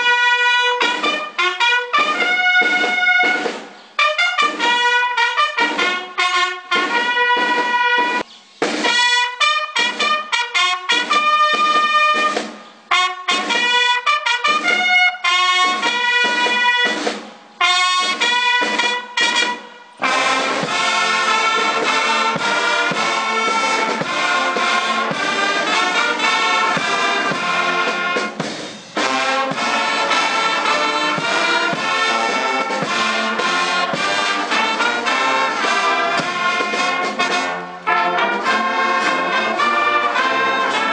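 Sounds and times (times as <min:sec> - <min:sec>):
brass band playing: 0:00.0 - 0:40.9.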